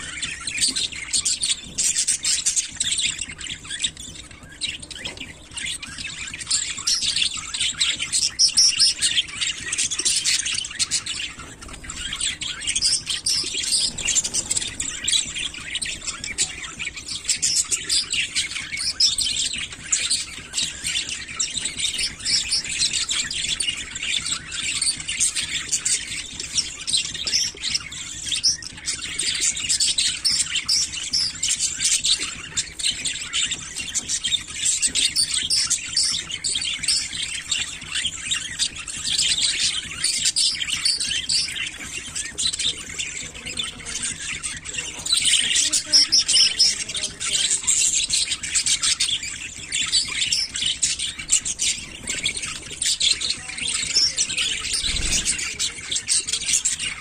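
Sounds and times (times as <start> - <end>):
budgerigars chirping and warbling: 0.0 - 57.0.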